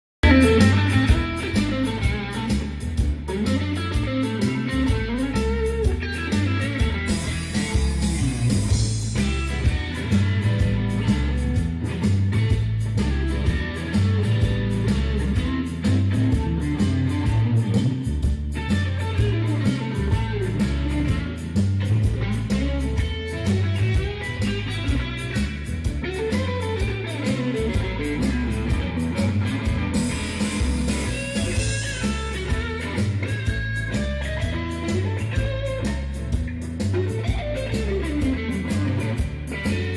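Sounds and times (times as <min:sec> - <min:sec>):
band music: 0:00.2 - 0:39.9
electric guitar playing: 0:00.2 - 0:39.9.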